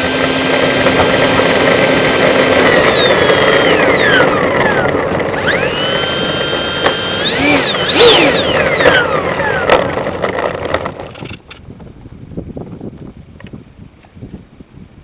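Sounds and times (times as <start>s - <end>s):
electric ducted fan whining: 0.0s - 14.0s.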